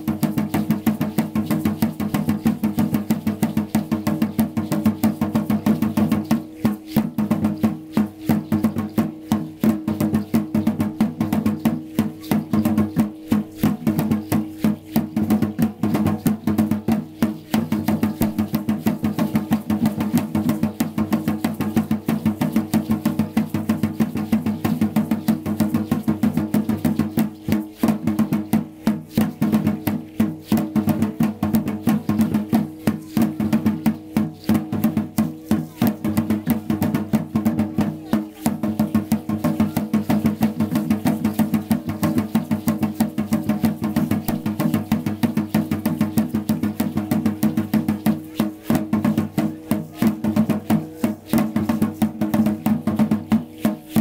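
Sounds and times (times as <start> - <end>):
clattering percussion: 0.0 - 54.0
fast drumming on large drum: 0.0 - 54.0.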